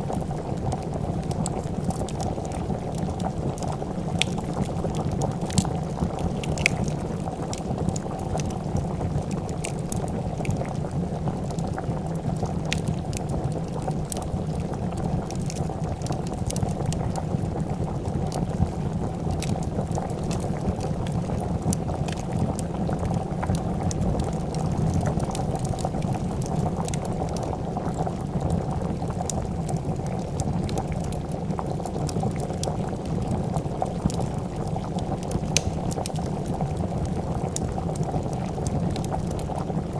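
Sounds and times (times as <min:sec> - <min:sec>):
pot of soup bubbling: 0:00.0 - 0:39.9
wood fire crackling and popping: 0:00.0 - 0:39.9.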